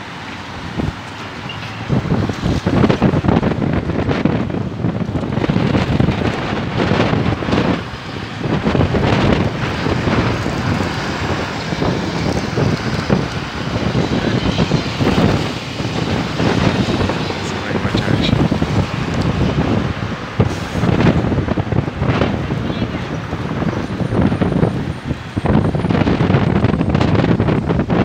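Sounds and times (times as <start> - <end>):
street traffic passing: 0.0 - 28.0
wind buffeting microphone: 0.0 - 28.0.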